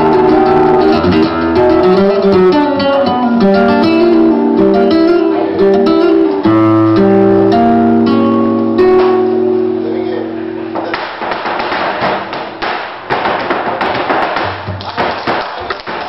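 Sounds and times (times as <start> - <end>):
flamenco acoustic guitar: 0.0 - 16.0.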